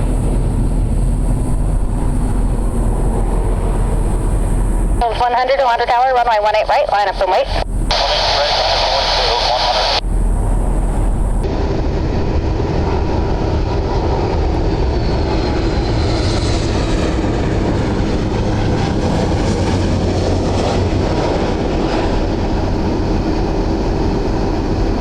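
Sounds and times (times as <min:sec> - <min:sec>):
faint engine whine: 0:00.0 - 0:25.0
jet airliner engines rumbling: 0:00.0 - 0:25.0.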